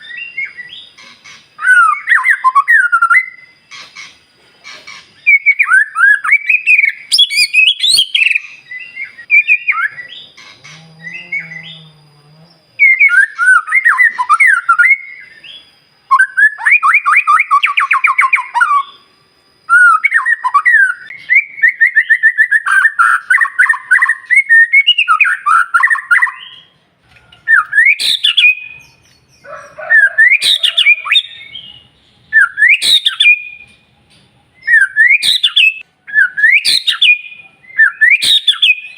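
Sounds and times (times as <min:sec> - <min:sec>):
songbird singing with trills: 0:00.0 - 0:38.9.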